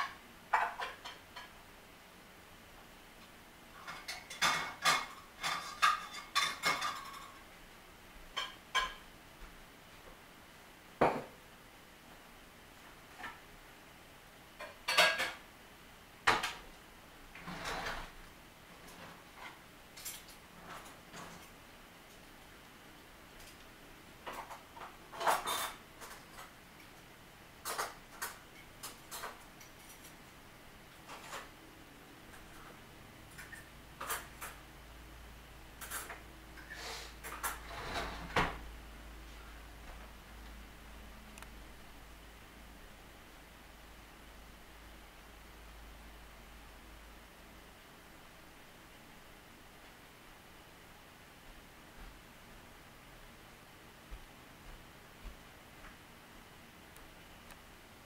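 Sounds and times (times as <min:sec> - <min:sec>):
low hiss: 0:00.0 - 0:58.0.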